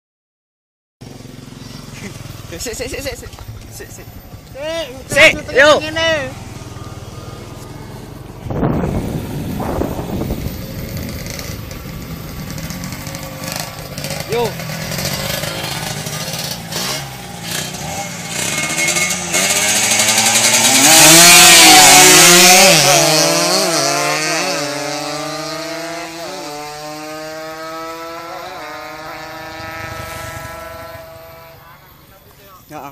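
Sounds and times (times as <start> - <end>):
motorcycle engine accelerating: 1.0 - 32.5.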